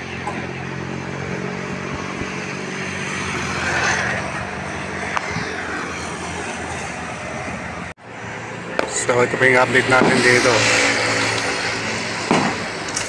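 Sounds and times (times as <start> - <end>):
street traffic: 0.0 - 13.0
vehicle passing: 0.0 - 13.0.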